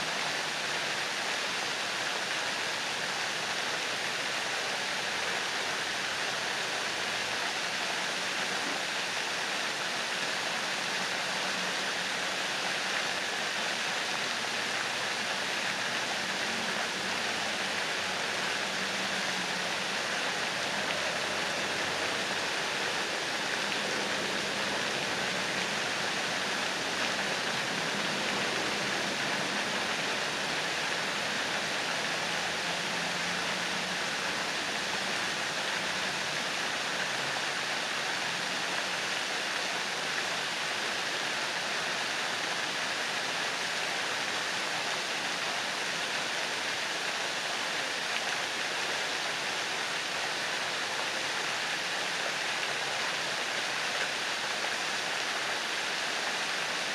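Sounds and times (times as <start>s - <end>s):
fountain water splashing: 0.0s - 56.9s.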